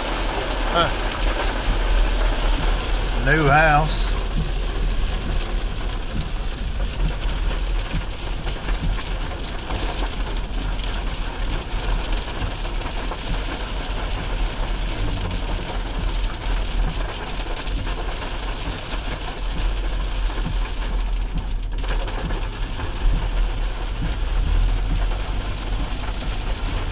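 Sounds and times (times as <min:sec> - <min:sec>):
engine and road rumble: 0:00.0 - 0:26.9
rain and wet road noise: 0:00.0 - 0:26.9.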